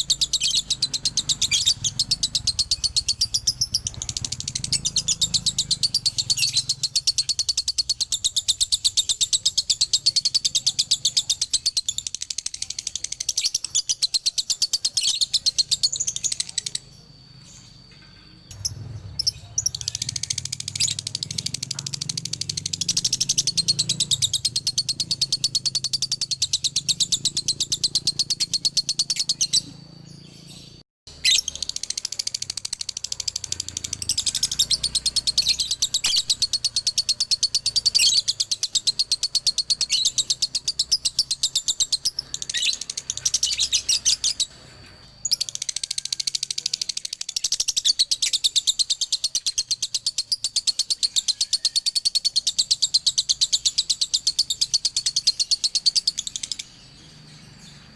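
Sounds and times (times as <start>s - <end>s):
lovebird chattering trill: 0.0s - 57.8s.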